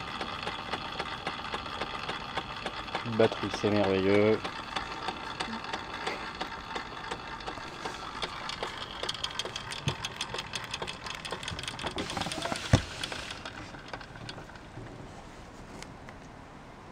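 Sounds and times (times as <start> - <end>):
steam engine ticking clatter: 0.0 - 15.0.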